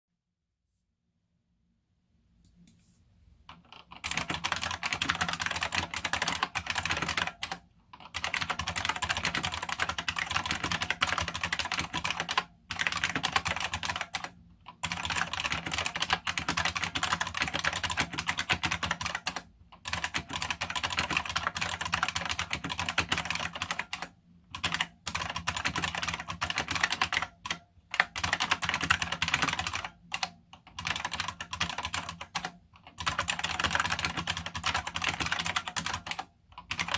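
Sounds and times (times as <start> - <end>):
fast clicky keyboard typing: 3.5 - 36.9.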